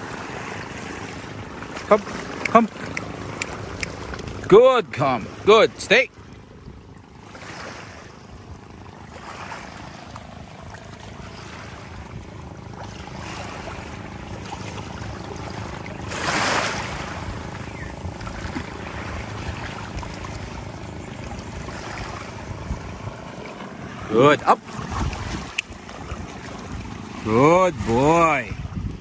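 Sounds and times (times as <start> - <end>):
sea waves lapping against rocks: 0.0 - 29.0.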